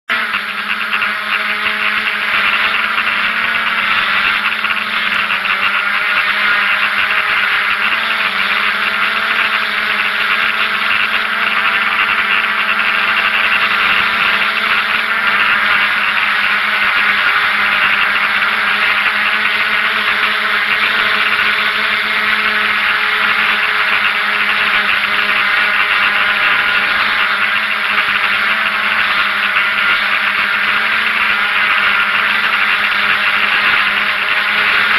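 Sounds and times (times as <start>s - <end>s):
drone propellers buzzing whine: 0.1s - 34.9s.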